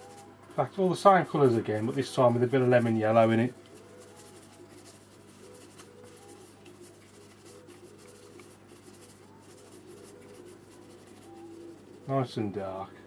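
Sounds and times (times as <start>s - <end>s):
brush bristles rubbing: 0.0s - 12.4s
low steady hum: 0.0s - 13.0s.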